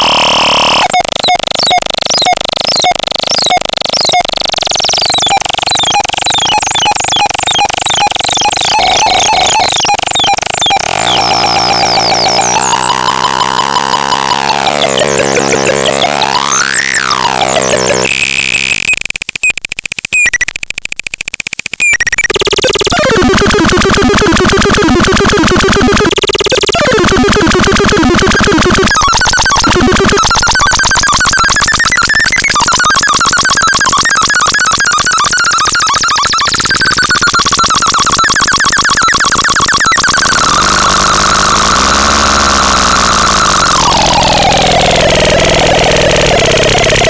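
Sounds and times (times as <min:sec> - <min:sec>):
harsh synthesized electronic tones: 0:00.0 - 0:19.4, 0:21.9 - 0:47.0.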